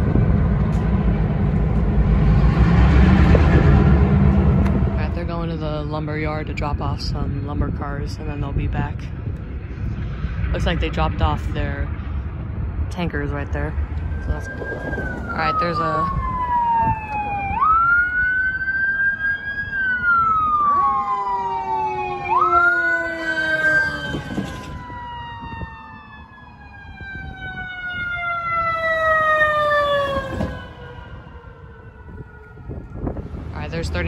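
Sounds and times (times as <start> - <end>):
emergency sirens wailing: 0.0 - 34.0.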